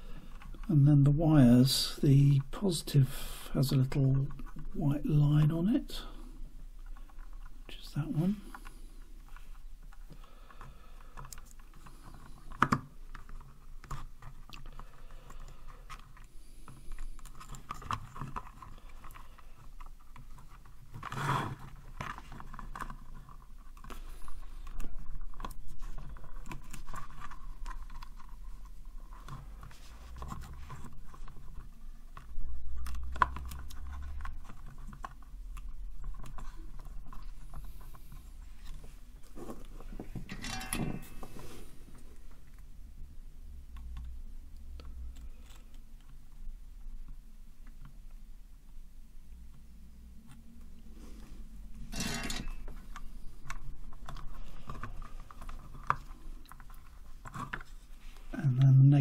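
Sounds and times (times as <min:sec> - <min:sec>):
hands scraping and rustling plastic: 0:03.6 - 0:42.7, 0:50.1 - 0:58.7.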